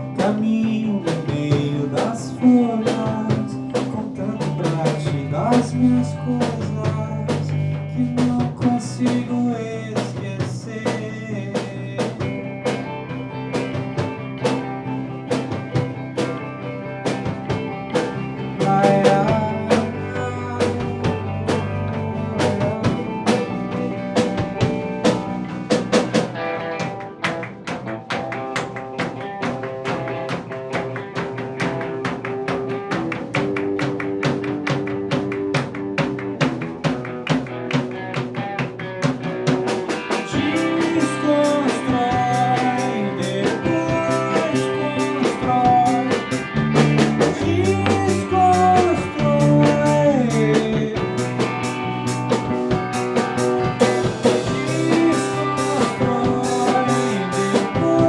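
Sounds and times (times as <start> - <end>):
drums: 0.0 - 58.0.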